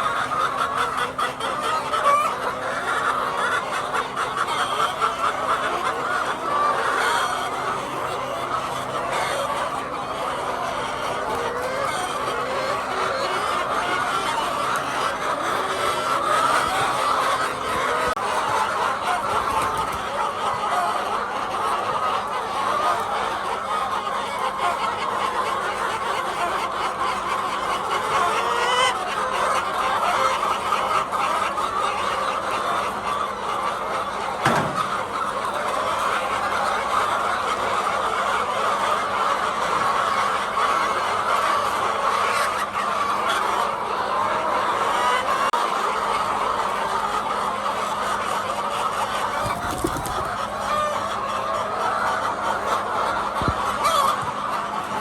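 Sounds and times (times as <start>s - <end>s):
hens clucking: 0.0s - 55.0s.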